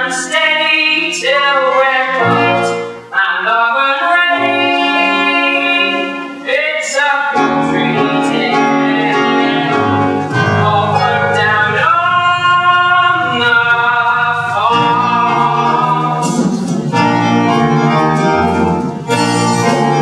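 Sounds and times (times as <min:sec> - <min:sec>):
instrumental accompaniment: 0:00.0 - 0:20.0
voices singing held notes: 0:00.0 - 0:20.0.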